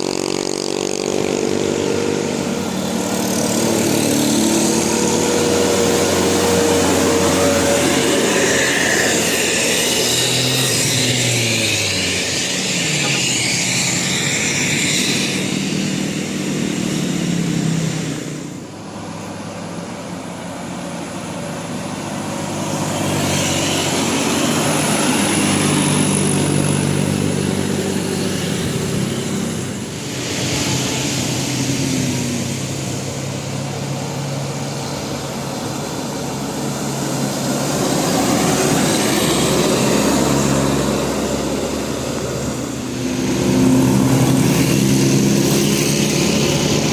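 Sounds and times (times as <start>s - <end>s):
buses driving past: 0.0s - 46.9s.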